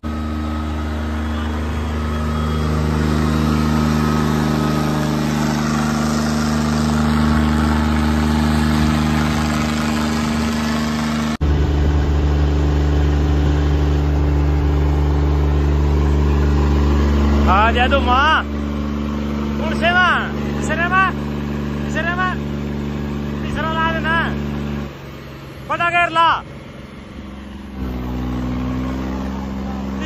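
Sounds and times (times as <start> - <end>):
tractor engine under heavy load: 0.0 - 30.0.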